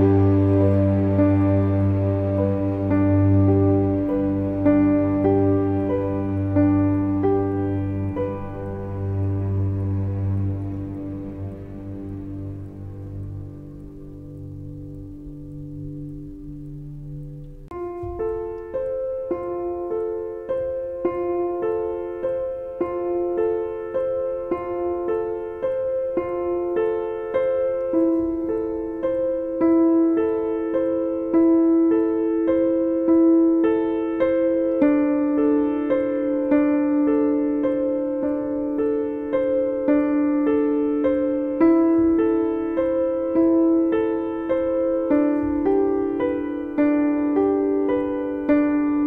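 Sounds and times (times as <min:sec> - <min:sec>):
keyboard playing sustained notes: 0:00.0 - 0:49.0.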